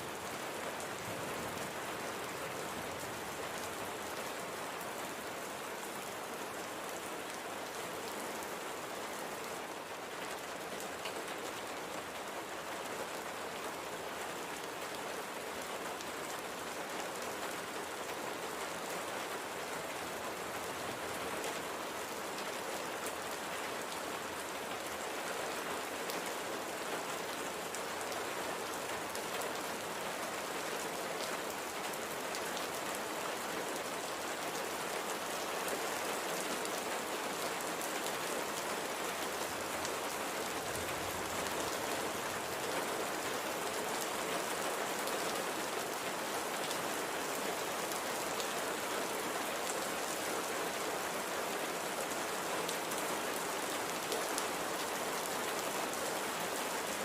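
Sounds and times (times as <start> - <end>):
light rain pattering: 0.0 - 57.0.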